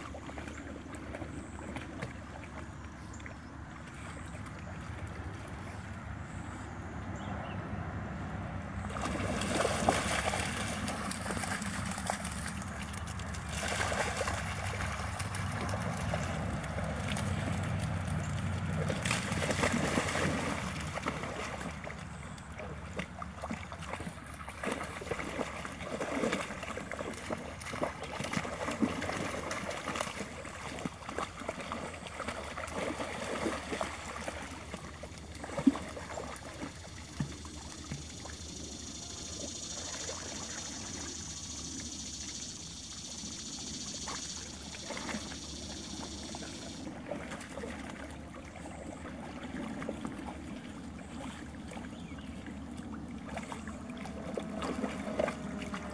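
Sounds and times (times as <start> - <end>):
dogs splashing through water: 0.0 - 55.9.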